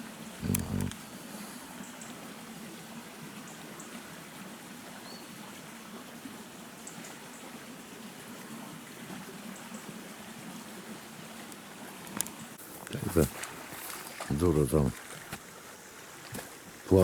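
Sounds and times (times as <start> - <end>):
river water running: 0.0 - 17.0.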